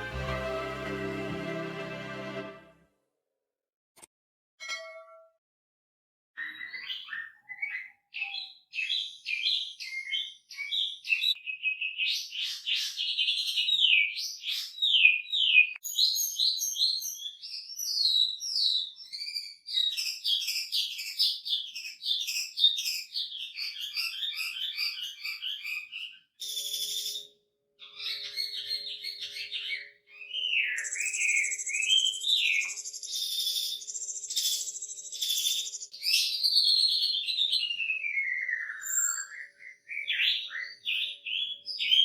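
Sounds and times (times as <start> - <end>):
bird singing trills and whistles: 6.4 - 42.0.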